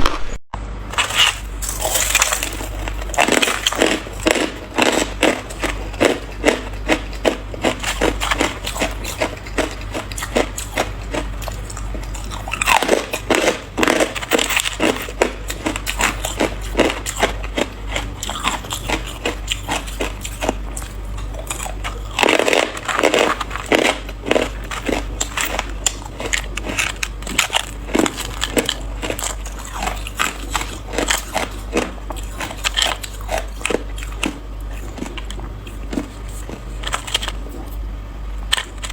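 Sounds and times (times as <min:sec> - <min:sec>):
person chewing hard ice: 0:00.9 - 0:38.9.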